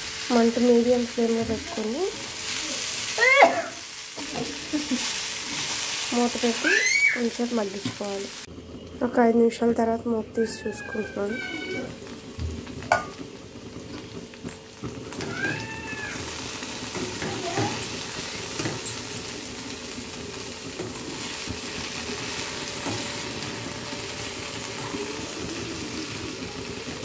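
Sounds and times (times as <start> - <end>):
okra sizzling in oil: 0.0 - 8.9, 10.2 - 27.0.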